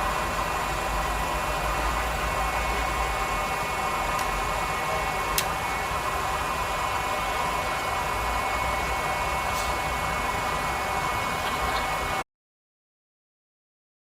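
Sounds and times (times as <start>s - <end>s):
milling machine humming and whining: 0.0s - 12.2s.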